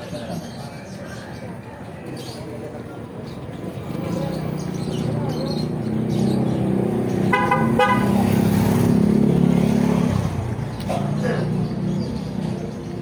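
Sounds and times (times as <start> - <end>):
vehicle engine humming: 2.5 - 13.0.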